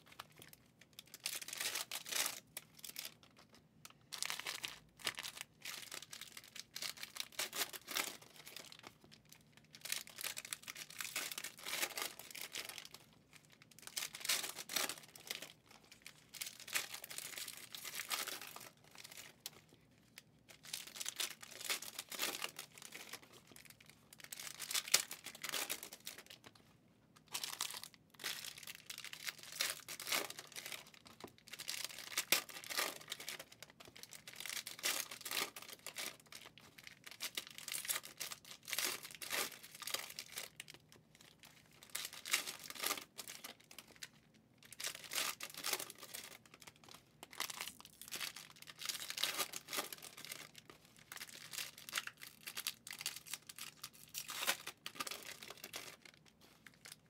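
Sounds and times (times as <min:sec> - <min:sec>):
foil wrappers crinkling and tearing: 0:00.0 - 0:26.5, 0:27.2 - 0:57.0.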